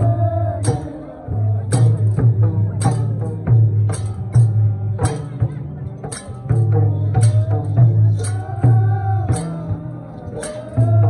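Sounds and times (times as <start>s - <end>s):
deep drum beating: 0.0s - 11.0s.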